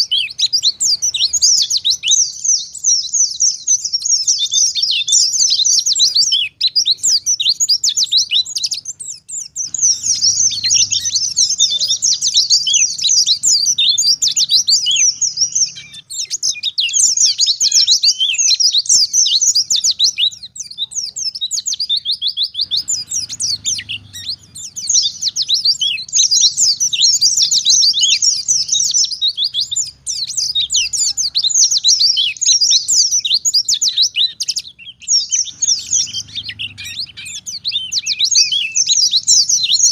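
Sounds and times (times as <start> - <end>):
bird singing high chirping notes: 0.0 - 39.9.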